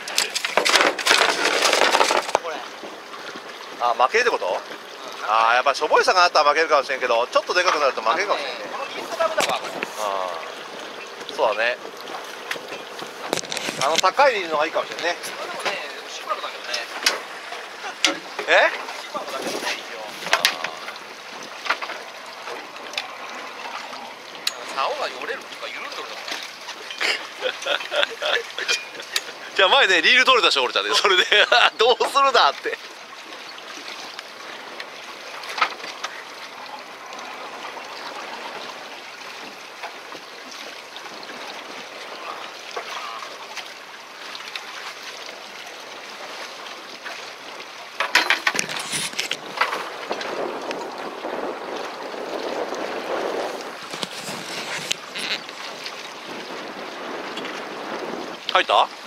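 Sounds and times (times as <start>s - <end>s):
sea noise: 0.0s - 59.0s
wind: 0.0s - 59.0s.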